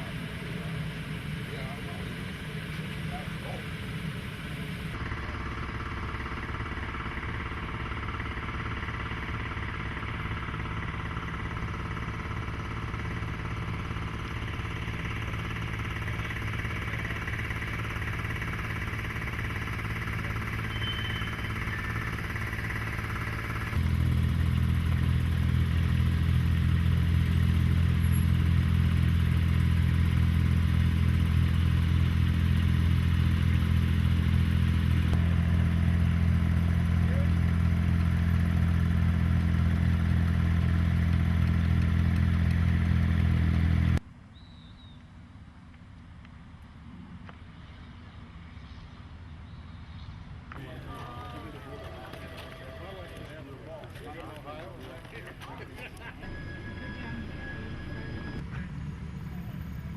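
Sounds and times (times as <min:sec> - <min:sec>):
small engine running: 0:00.0 - 0:44.0, 0:50.5 - 0:59.9.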